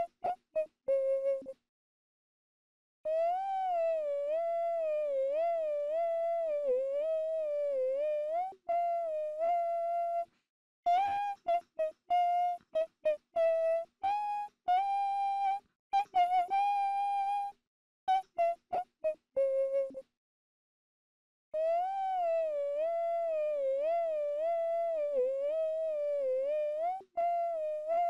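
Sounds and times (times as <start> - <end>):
person humming a melody: 0.0 - 1.6, 3.1 - 10.3, 10.9 - 20.1, 21.6 - 28.0.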